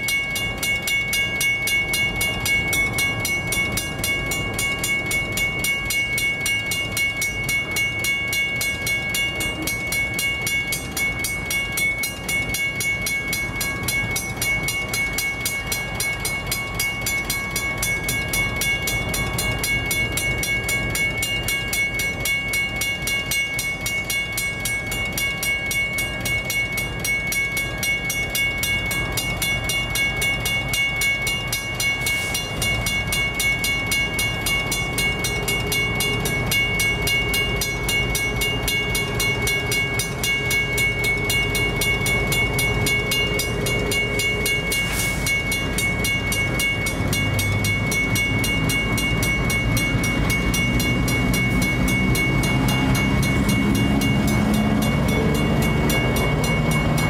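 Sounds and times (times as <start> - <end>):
crossing bell ringing rapidly: 0.0 - 57.0
diesel locomotives: 0.0 - 57.0.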